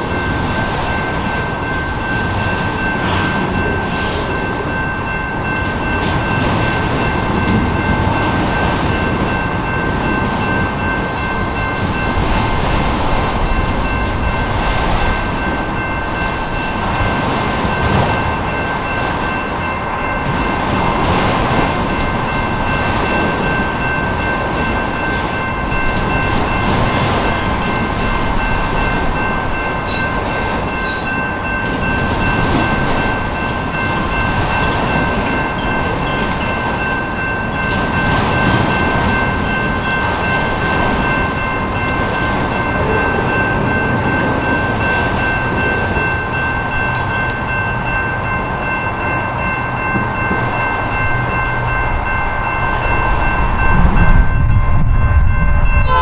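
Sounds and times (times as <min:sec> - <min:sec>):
high ringing tones: 0:00.0 - 0:12.5, 0:21.8 - 0:56.0
freight train rumbling on rails: 0:00.0 - 0:56.0.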